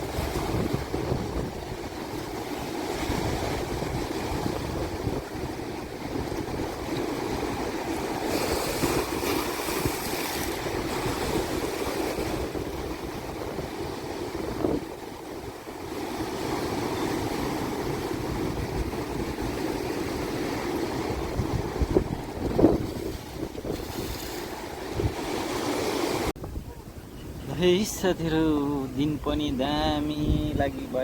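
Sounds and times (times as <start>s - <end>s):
sea waves washing on beach: 0.0s - 26.4s
wind rumbling on microphone: 0.0s - 31.0s.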